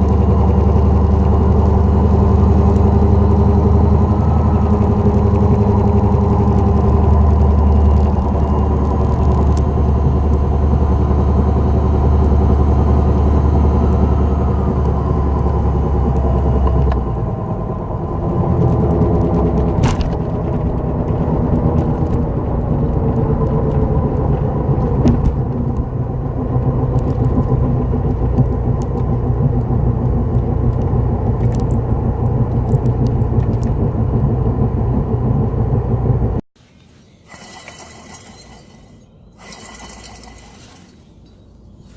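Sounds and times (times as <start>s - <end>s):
car engine running: 0.0s - 36.4s, 37.3s - 41.9s
wheel bearing drone: 0.0s - 41.4s
road noise: 0.0s - 41.9s.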